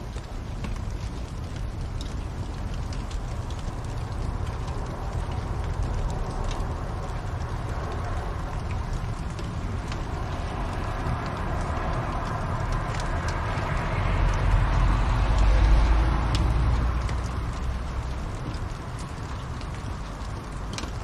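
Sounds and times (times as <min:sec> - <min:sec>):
wood fire crackling: 0:00.0 - 0:21.0
low rumble: 0:00.2 - 0:21.0.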